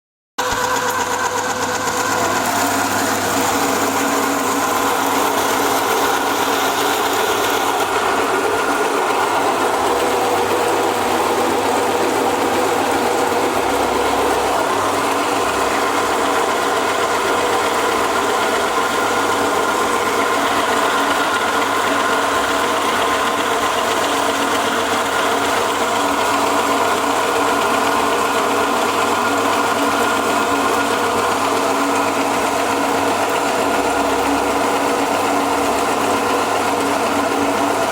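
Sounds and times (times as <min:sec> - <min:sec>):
machine hum: 0:00.4 - 0:37.9
machine running: 0:00.4 - 0:37.9.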